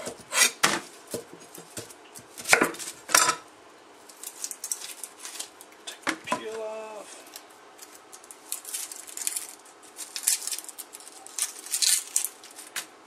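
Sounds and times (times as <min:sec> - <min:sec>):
onion skin crackling and rustling: 0:00.1 - 0:13.0.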